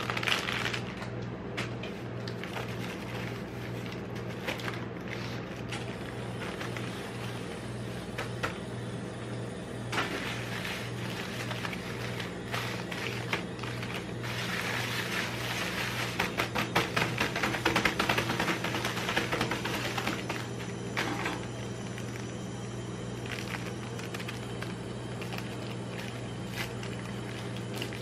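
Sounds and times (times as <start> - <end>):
plastic wrappers crinkling: 0.0 - 8.5, 10.0 - 22.3, 23.1 - 28.0
low steady hum: 0.0 - 28.0.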